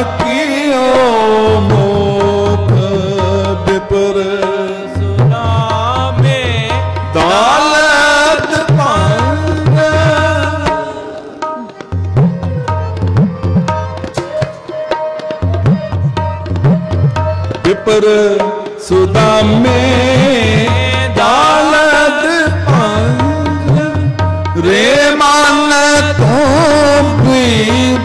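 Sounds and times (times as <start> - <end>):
tabla playing: 0.0 - 28.0.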